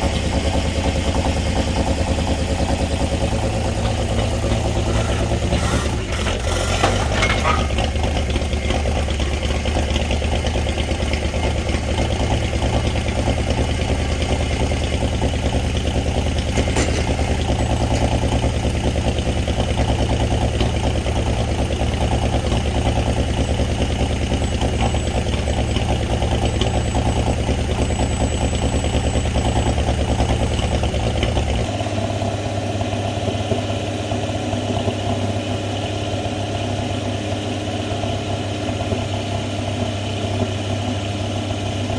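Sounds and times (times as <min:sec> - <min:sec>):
truck engine running at low revs: 0:00.0 - 0:41.9.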